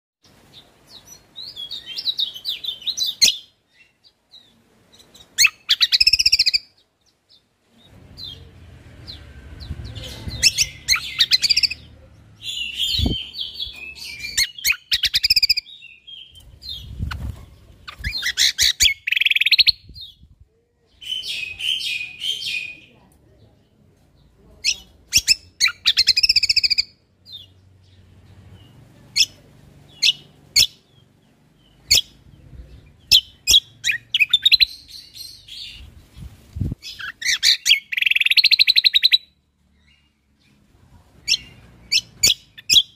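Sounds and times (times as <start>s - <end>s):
songbird chirping and trilling: 0.2s - 42.9s.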